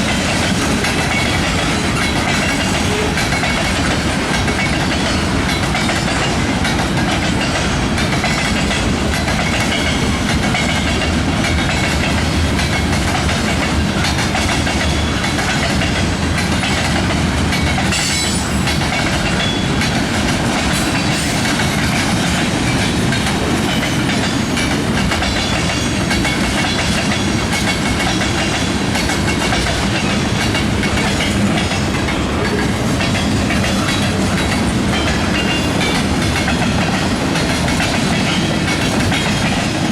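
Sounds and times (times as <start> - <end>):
train wheels running on rails: 0.0 - 39.9.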